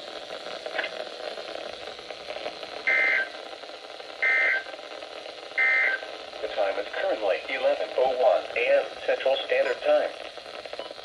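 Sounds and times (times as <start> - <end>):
buzzy radio data bursts: 0.0 - 11.0
static hiss: 0.0 - 11.0.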